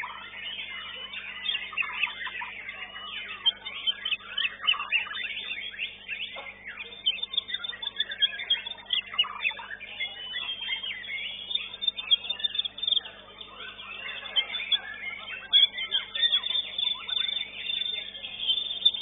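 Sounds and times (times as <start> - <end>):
faint steady hum: 0.0 - 19.0
songbirds singing: 0.0 - 19.0.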